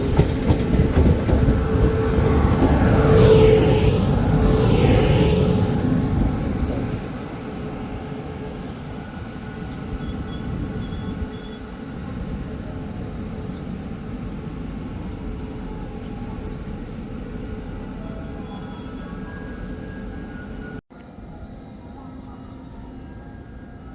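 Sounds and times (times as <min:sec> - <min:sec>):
train rumbling: 0:00.0 - 0:23.8.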